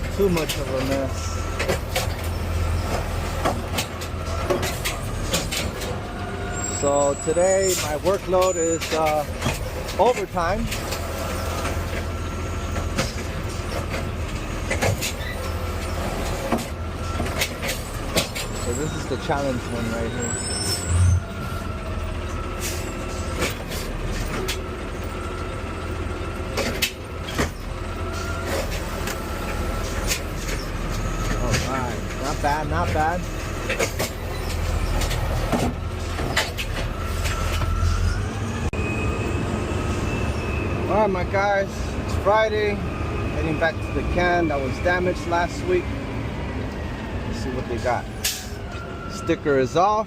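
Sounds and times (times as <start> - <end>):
garbage truck engine droning: 0.0 - 50.0.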